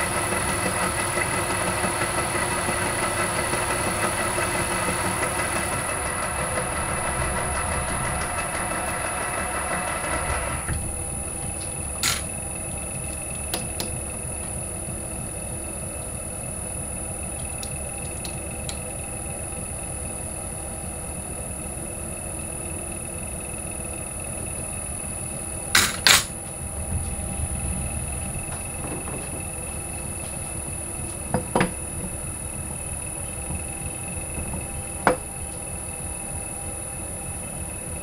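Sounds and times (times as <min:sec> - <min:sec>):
steady low hum: 0:04.0 - 0:38.0.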